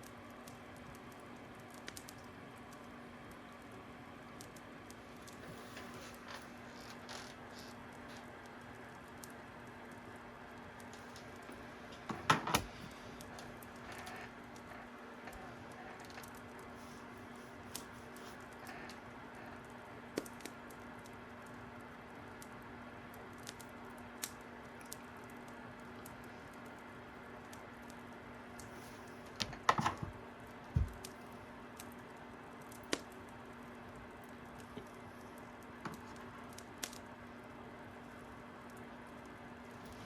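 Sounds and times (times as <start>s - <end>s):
faint steady hum: 0.0s - 40.0s
fire crackling and popping: 0.0s - 40.0s.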